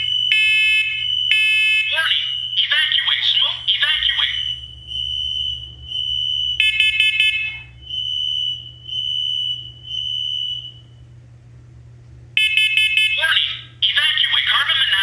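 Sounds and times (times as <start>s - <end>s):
harsh pulsing alarm tone: 0.0s - 11.0s, 12.4s - 15.0s
smoke alarm beeps: 0.0s - 11.1s, 12.4s - 15.0s.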